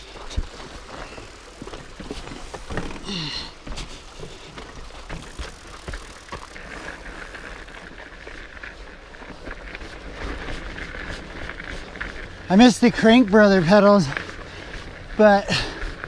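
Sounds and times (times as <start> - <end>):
bike frame rattling: 0.0 - 16.0
bike tyres rolling on dirt: 0.0 - 16.0.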